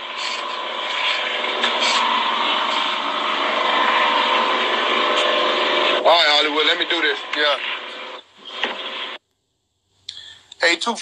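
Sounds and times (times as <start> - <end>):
engine humming: 0.0 - 9.2.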